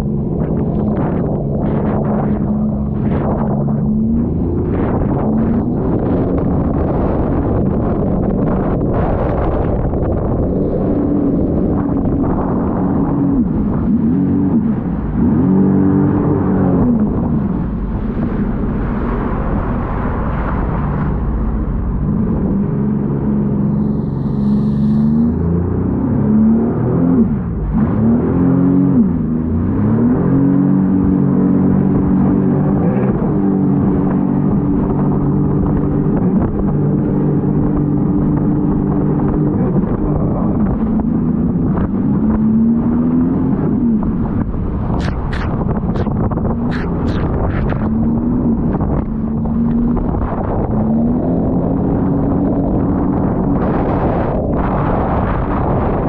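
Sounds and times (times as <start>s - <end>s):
jet ski engine: 0.0s - 56.0s
rush of wind and water: 0.0s - 56.0s.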